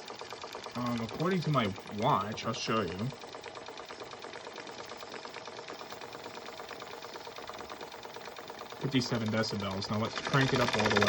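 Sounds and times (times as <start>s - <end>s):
toy steam engine ticking: 0.0s - 11.0s.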